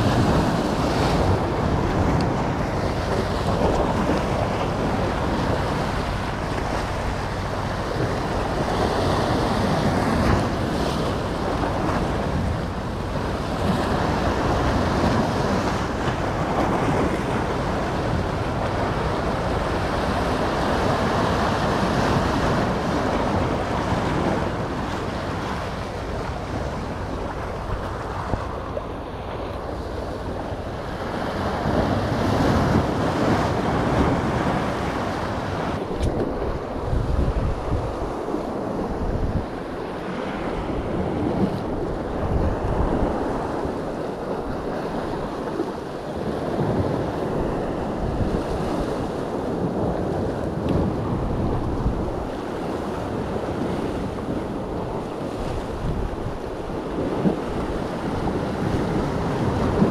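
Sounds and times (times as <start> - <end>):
sea surf washing in: 0.0 - 59.9
wind on microphone: 0.0 - 59.9.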